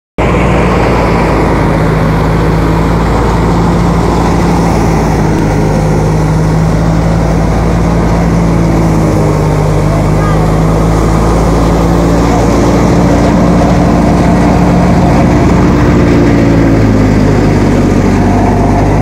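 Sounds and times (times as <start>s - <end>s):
threshing machine drone: 0.2s - 19.0s.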